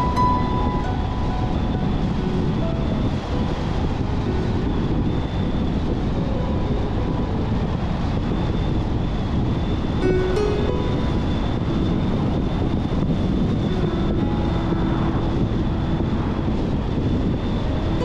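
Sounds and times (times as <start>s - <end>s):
road and tyre noise: 0.0s - 18.0s
wind noise: 0.0s - 18.0s.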